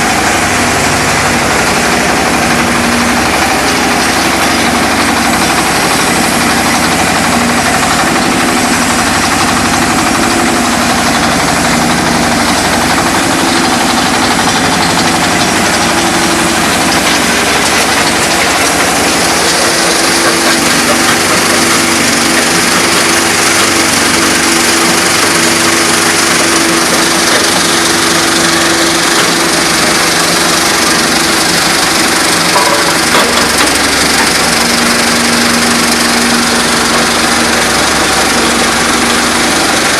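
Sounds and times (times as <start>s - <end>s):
stone crusher machine running: 0.0s - 39.9s.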